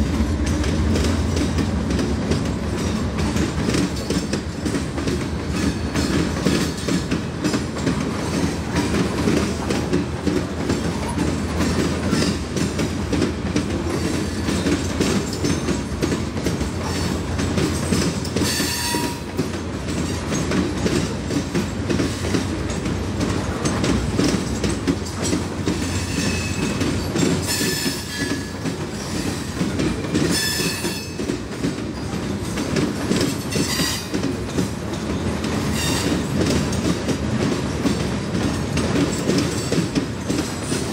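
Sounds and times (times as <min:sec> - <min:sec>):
freight train wheels rumbling and clacking: 0:00.0 - 0:40.9.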